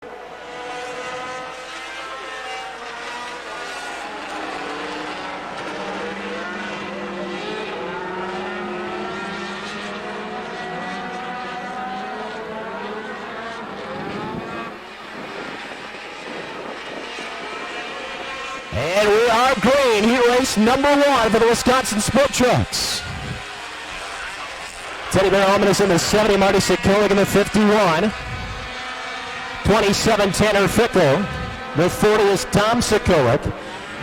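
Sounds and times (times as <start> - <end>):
truck engines running together: 0.1 - 34.0.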